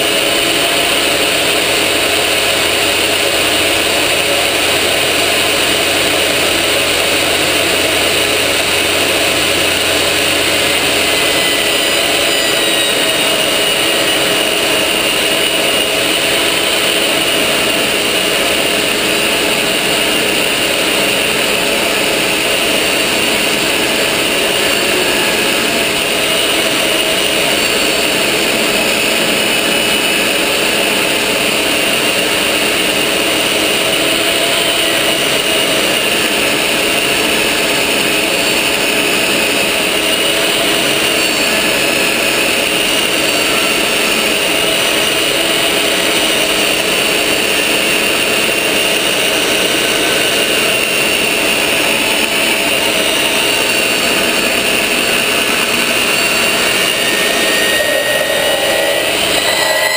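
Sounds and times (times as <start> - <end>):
table saw cutting wood: 0.0 - 59.9.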